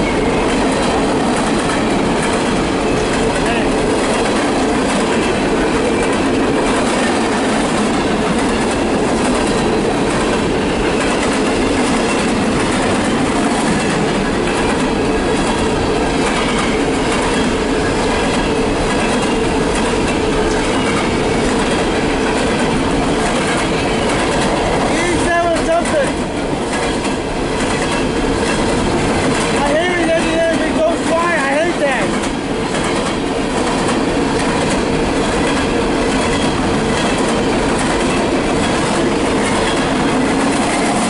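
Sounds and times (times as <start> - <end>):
train cars rumbling and rattling: 0.0 - 41.0.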